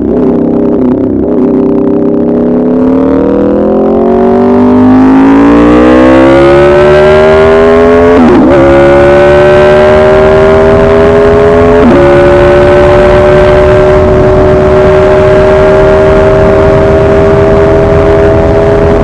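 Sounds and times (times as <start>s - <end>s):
motorcycle engine revving under load: 0.0s - 19.0s.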